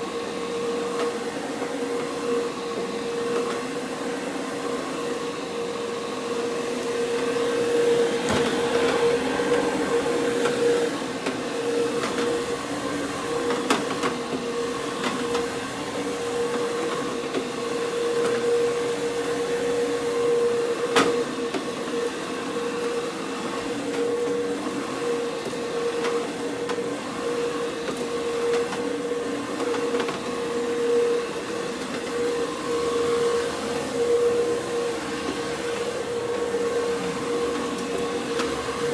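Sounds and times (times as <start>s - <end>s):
carpet scrubbing machine hum: 0.0s - 38.9s.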